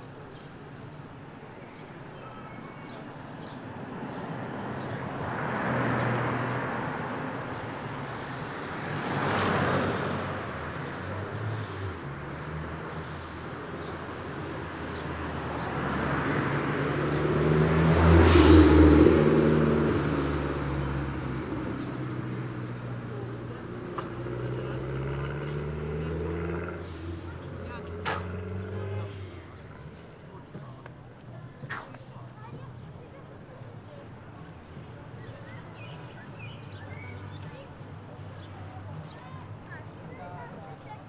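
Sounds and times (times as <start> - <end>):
cars passing by: 0.0 - 41.0.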